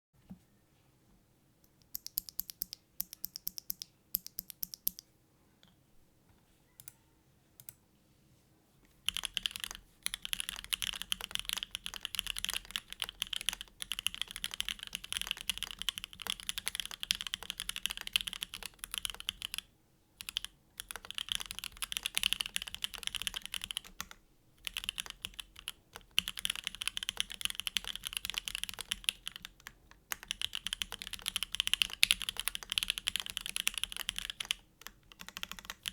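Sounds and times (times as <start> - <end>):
mechanical keyboard typing: 1.8 - 5.0, 9.1 - 35.9.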